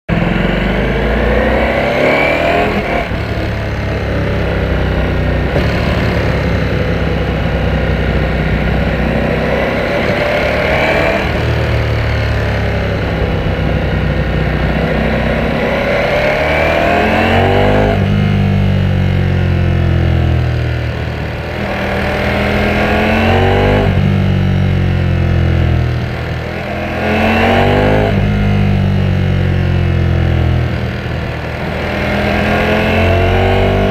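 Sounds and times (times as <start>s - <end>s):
motorcycle engine revving through gears: 0.1s - 33.9s.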